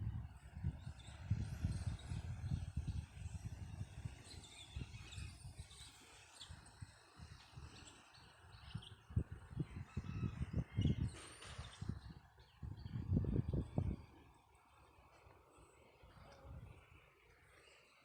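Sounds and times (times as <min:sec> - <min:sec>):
wind buffeting microphone: 0:00.0 - 0:17.1
birds calling and chirping: 0:00.9 - 0:18.0.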